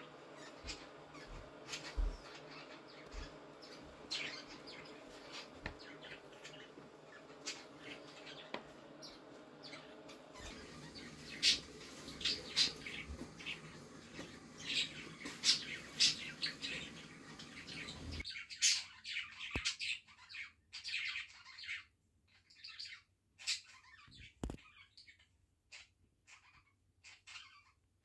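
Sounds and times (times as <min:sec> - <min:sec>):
bird chirping: 0:00.0 - 0:27.8.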